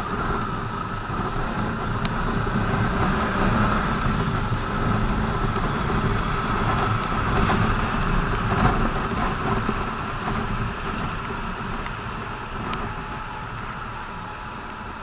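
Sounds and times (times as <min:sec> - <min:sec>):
wind rushing: 0:00.0 - 0:13.8
motorcycle engine rumble: 0:00.0 - 0:15.0
tyre noise on wet road: 0:00.0 - 0:15.0.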